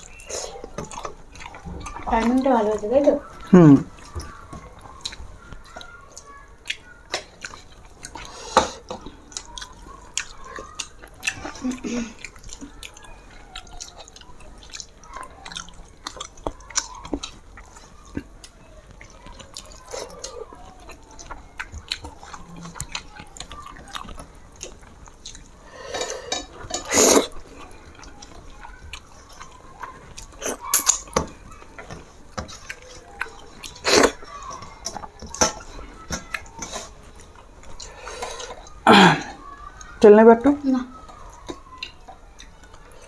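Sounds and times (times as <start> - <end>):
mouth smacking and chewing: 0.0 - 40.0, 40.9 - 43.0.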